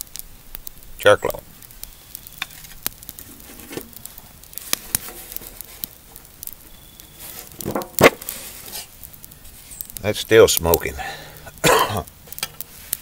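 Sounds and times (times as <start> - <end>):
sharp pops and clicks: 0.0 - 13.0
wood fire crackling: 0.0 - 13.0.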